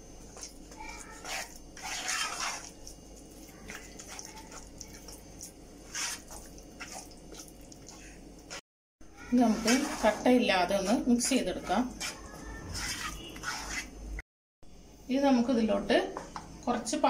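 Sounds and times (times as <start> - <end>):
wooden spoon stirring thick mixture: 0.0 - 14.2.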